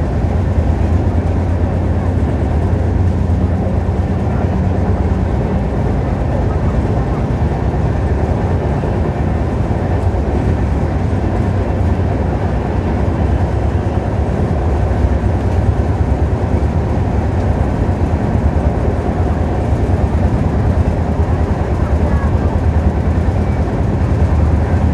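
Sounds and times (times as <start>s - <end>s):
train wheels rumbling on track: 0.0s - 24.9s.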